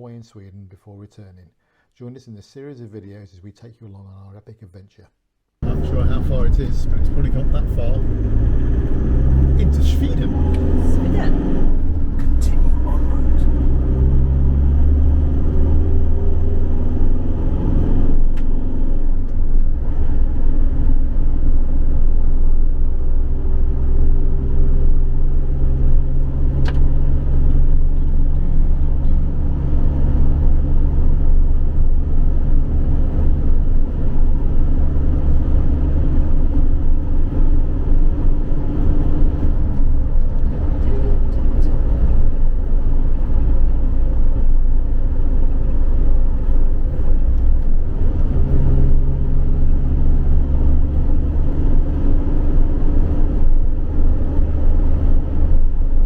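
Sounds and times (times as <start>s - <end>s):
vehicle engine and road rumble: 5.6s - 56.0s.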